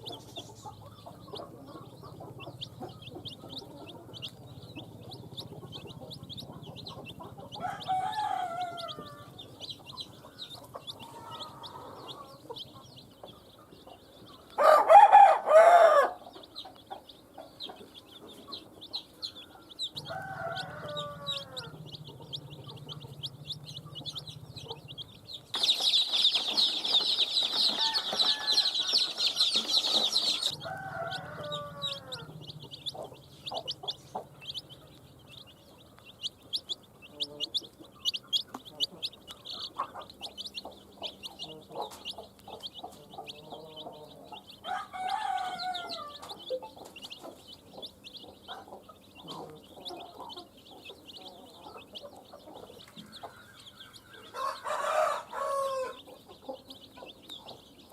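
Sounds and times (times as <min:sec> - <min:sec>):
baby chicks peeping: 0:00.0 - 0:57.9
hen clucking: 0:00.0 - 0:57.9.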